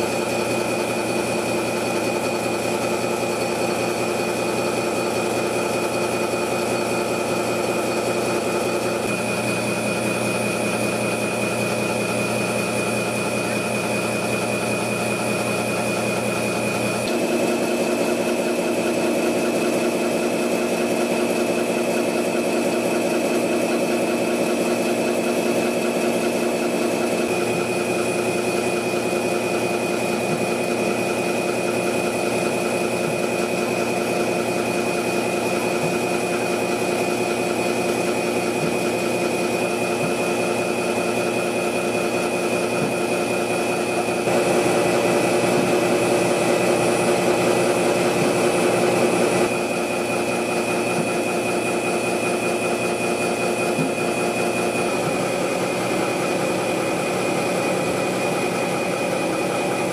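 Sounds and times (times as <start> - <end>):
high machine whine: 0.0 - 59.9
industrial machinery hum: 0.0 - 59.9.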